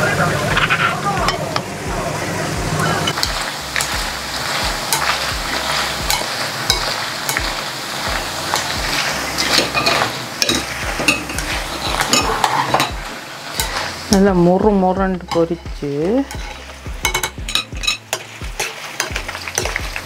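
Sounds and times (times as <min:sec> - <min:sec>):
food deep-frying in oil: 0:02.9 - 0:20.0
stick stirring in pan: 0:03.1 - 0:20.0.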